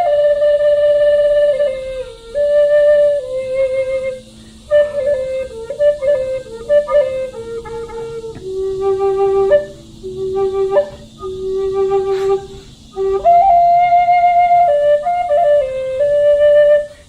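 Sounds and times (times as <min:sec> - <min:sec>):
flute playing slow melody: 0:00.0 - 0:17.0.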